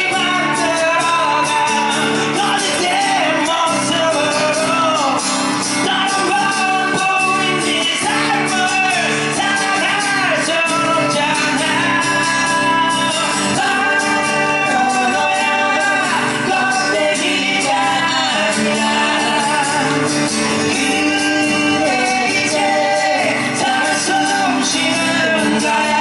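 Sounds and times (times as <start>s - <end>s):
acoustic guitar: 0.0s - 26.0s
two men singing together: 0.0s - 26.0s.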